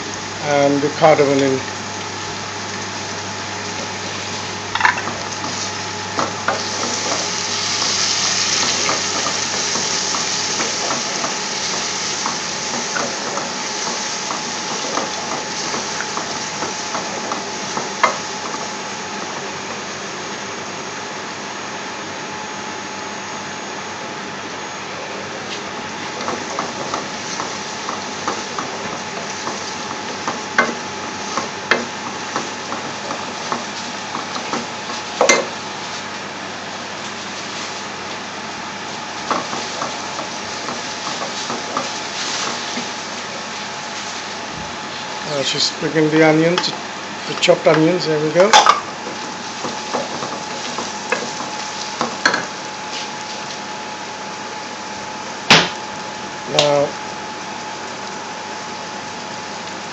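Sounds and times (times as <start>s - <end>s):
spices sizzling in hot oil: 0.0s - 21.1s, 25.5s - 59.9s.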